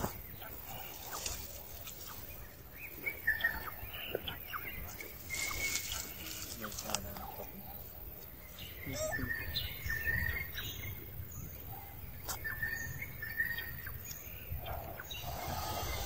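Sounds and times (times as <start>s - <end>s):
birds whistling: 0.0s - 6.8s, 7.4s - 16.0s
birds chirping: 0.0s - 16.0s.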